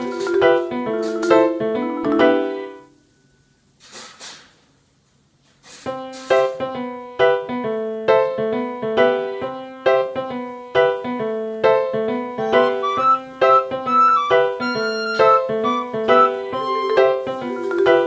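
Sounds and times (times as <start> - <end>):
piano music with repeating chords: 0.0 - 3.0, 6.1 - 18.0.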